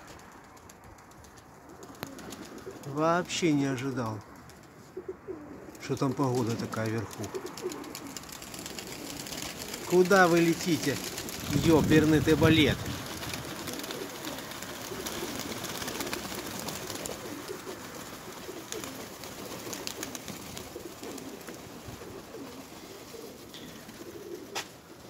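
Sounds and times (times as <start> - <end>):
pigeons cooing: 1.6 - 3.0, 4.4 - 25.0.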